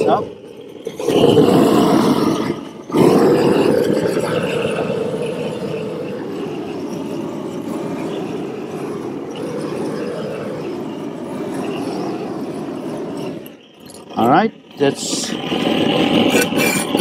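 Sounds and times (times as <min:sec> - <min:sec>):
gas torch flame rushing: 0:00.0 - 0:17.0.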